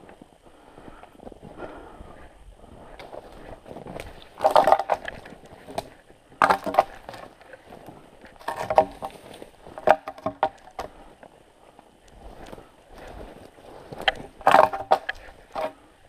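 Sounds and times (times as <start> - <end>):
footsteps crunching in snow: 0.0 - 10.1, 10.7 - 15.8.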